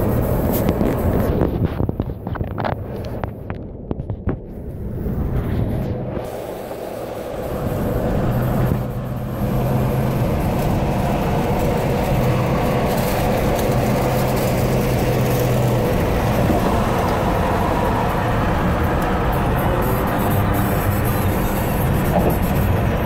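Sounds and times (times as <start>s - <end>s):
car road and tyre noise: 0.0s - 23.0s.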